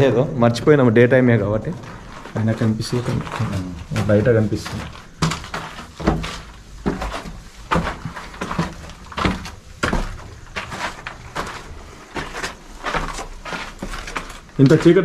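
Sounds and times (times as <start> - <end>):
footsteps in a bare room: 0.0 - 15.0.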